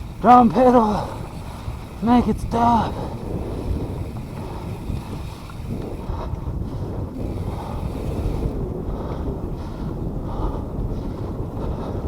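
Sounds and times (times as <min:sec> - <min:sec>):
wind buffeting microphone: 0:00.0 - 0:12.0
heavy breathing: 0:00.7 - 0:12.0.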